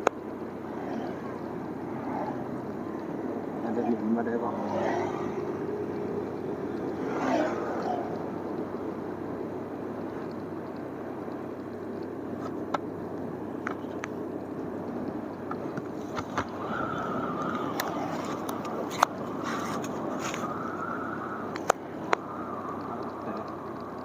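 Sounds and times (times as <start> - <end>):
high whine: 0.0 - 24.0
wind and road noise: 0.0 - 24.0.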